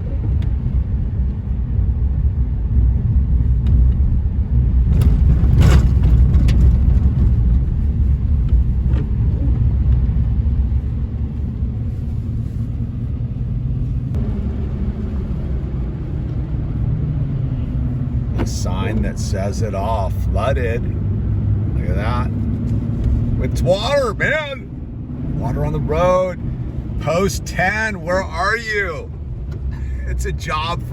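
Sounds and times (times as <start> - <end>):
car engine and tyres rumbling: 0.0 - 30.9.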